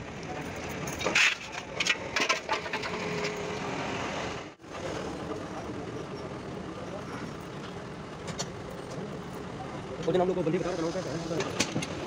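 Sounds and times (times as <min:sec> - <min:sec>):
workshop background noise: 0:00.0 - 0:12.0.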